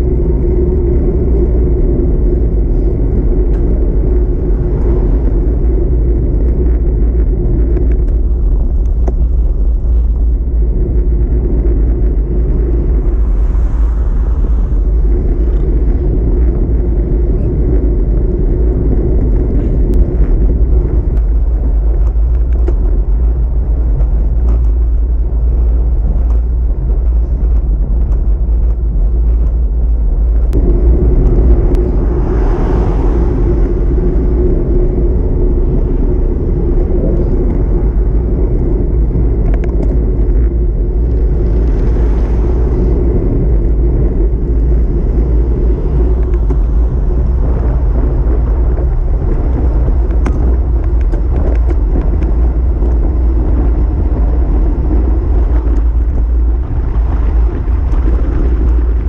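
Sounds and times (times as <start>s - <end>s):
steady hum: 0.0s - 59.0s
wind buffeting microphone: 0.0s - 59.0s.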